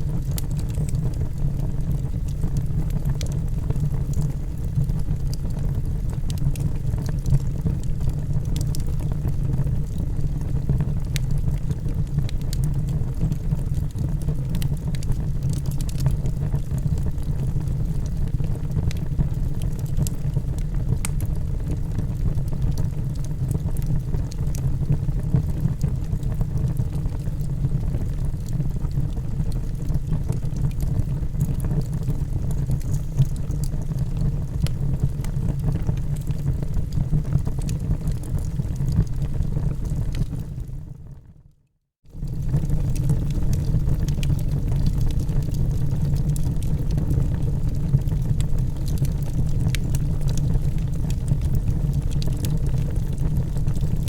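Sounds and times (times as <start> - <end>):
fire crackles and pops: 0.0 - 41.3, 42.1 - 54.0
low rumble of flames: 0.0 - 54.0.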